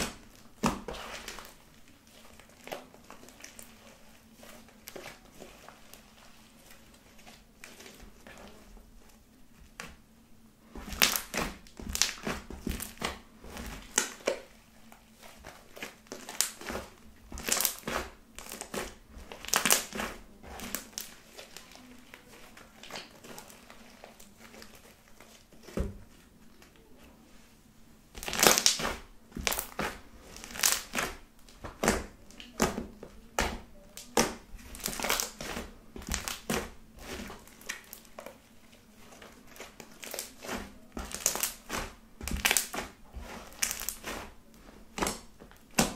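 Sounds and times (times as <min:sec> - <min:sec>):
slime squishing: 0:00.0 - 0:45.9.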